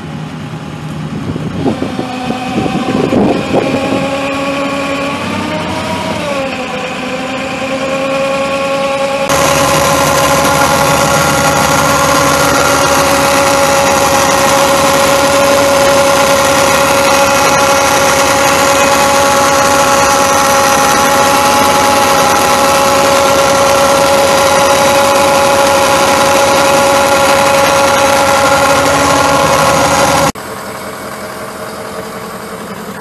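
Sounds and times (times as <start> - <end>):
constant whine: 0.0 - 33.0
diesel engine running: 0.0 - 33.0.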